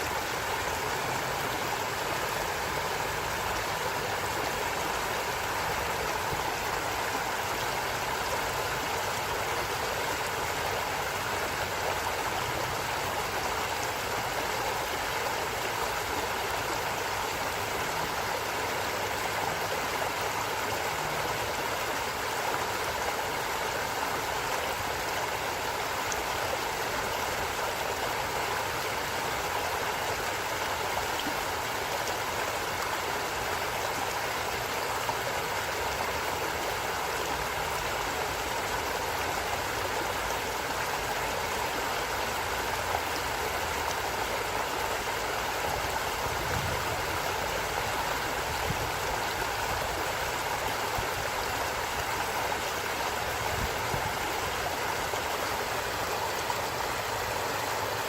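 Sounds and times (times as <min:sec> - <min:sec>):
water flowing over rocks: 0:00.0 - 0:58.0.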